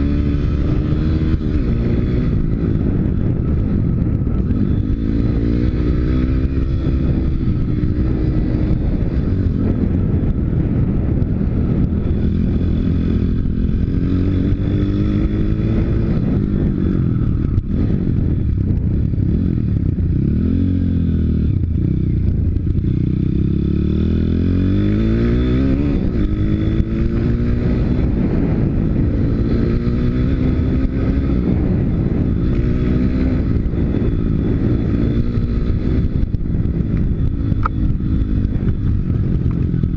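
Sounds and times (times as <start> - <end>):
pit bike engine revving: 0.0 - 18.4, 19.2 - 39.9.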